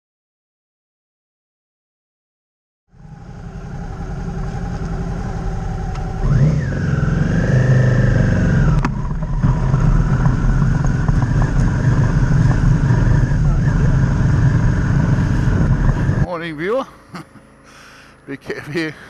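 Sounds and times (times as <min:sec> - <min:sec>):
motorcycle engine revving: 0:02.9 - 0:18.8.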